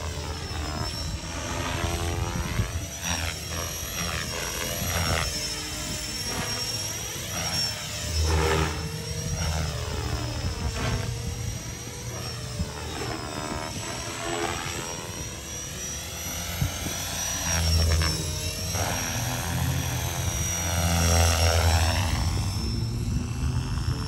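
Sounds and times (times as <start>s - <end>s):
model helicopter rotor whine: 0.0s - 24.0s.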